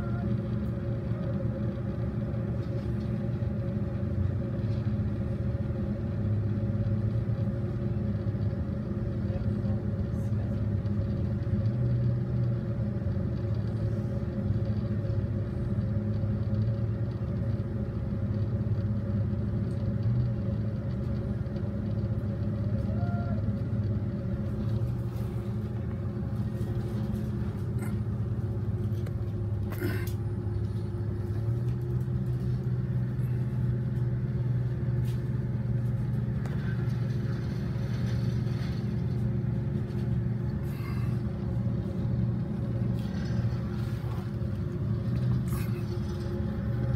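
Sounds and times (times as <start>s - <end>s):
truck engine humming: 0.0s - 46.9s.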